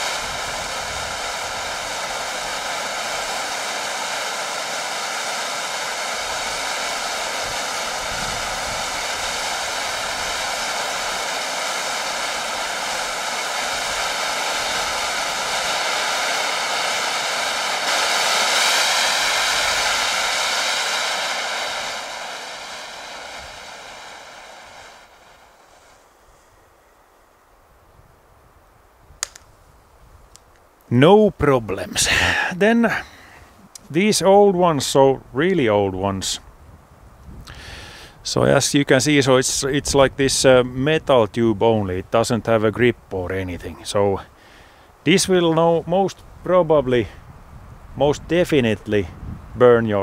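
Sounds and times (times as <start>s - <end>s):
hand flare burning with hiss: 0.0s - 50.0s.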